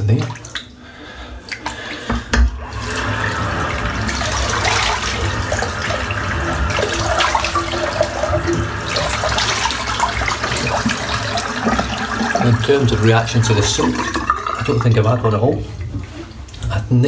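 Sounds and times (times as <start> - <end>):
water splashing: 0.0 - 16.8
tap water running into sink: 1.5 - 16.7.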